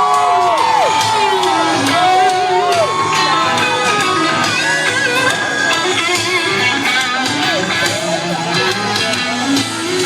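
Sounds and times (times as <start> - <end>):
electric guitar bending notes: 0.0 - 10.0
live country band playing: 0.0 - 10.0.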